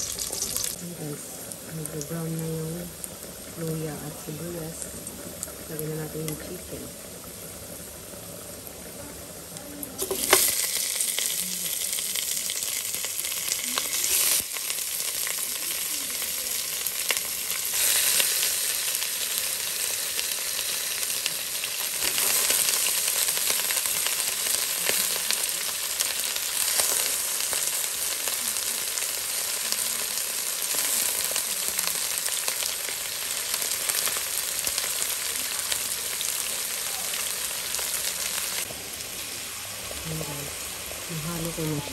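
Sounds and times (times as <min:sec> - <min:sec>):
chicken frying in hot oil: 0:00.0 - 0:41.9.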